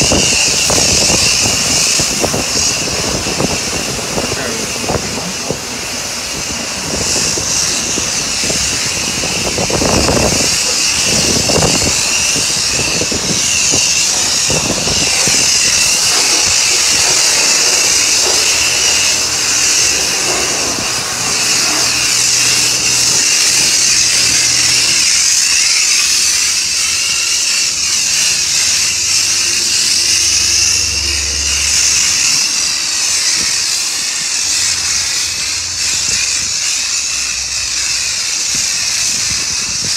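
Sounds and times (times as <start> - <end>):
constant high whine: 0.0 - 39.9
pressure washer spraying water: 0.0 - 39.9.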